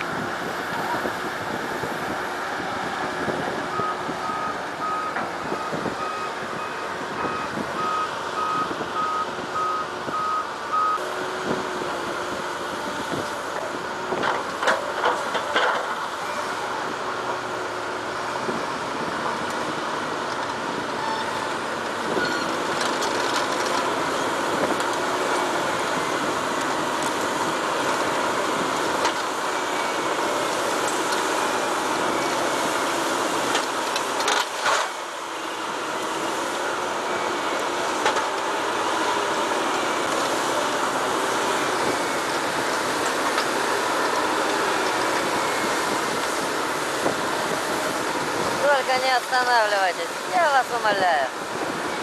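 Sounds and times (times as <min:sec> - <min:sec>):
heavy machinery running: 0:00.0 - 0:52.0.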